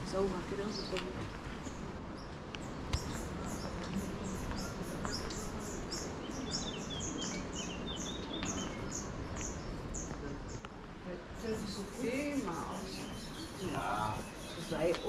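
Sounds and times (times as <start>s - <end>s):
low outdoor background hum: 0.0s - 15.0s
small birds chirping: 0.0s - 15.0s
bird twittering: 1.6s - 10.6s, 11.3s - 15.0s.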